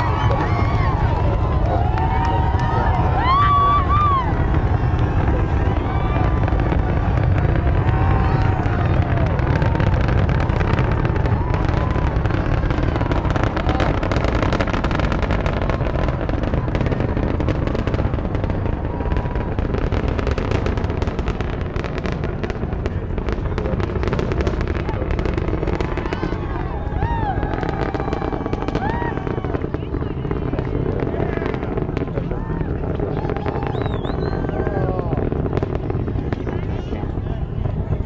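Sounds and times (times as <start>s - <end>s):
rocket launch rumble with crackling: 0.0s - 38.0s.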